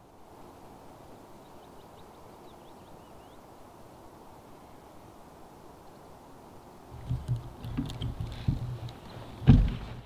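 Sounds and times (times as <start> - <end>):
faint outdoor background noise: 0.0 - 10.0.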